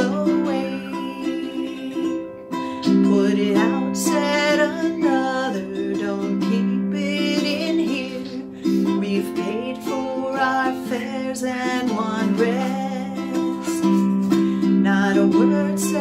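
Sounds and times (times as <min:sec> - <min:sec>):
ukulele strumming: 0:00.0 - 0:16.0
woman singing: 0:00.0 - 0:16.0.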